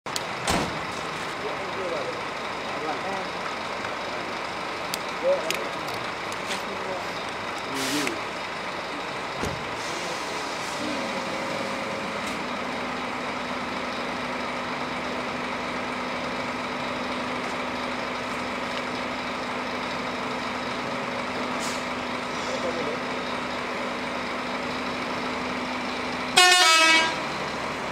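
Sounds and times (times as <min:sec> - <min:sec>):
bus diesel engine running: 0:00.1 - 0:27.9.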